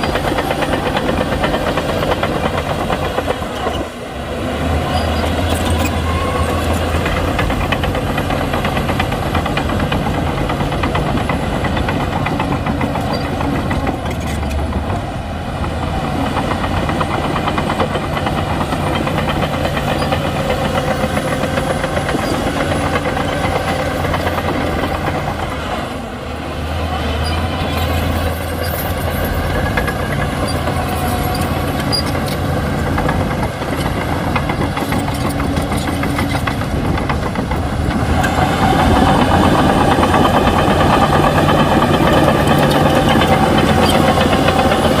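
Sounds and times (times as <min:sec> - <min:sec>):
bulldozer diesel engine: 0:00.0 - 0:45.0
steel tracks rattling: 0:00.0 - 0:45.0.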